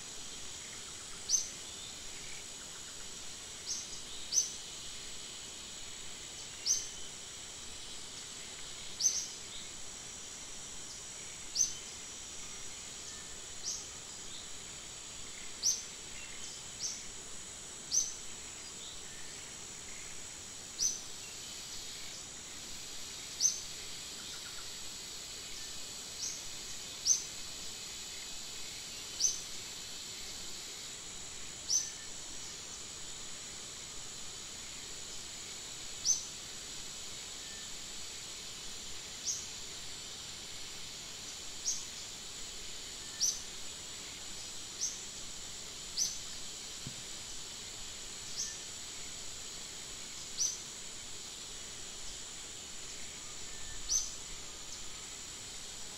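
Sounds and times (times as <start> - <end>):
high insect drone: 0.0 - 55.9.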